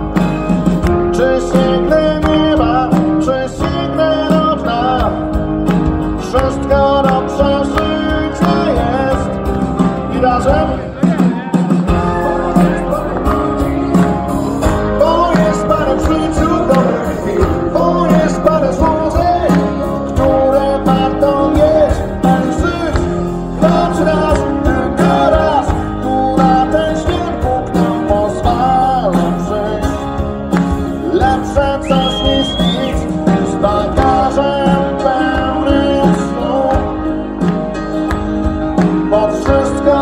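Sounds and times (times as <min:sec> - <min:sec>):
acoustic guitars: 0:00.0 - 0:40.0
man singing: 0:00.8 - 0:37.5, 0:38.8 - 0:40.0.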